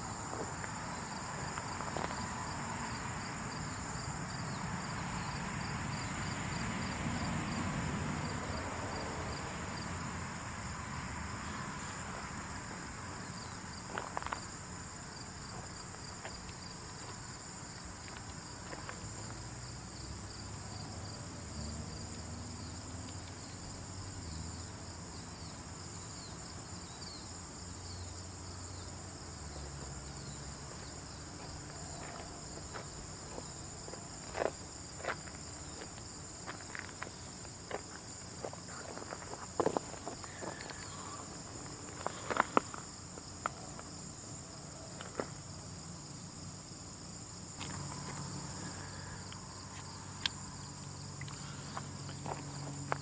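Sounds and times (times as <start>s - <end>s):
insects chirring: 0.0s - 7.6s, 8.5s - 53.0s.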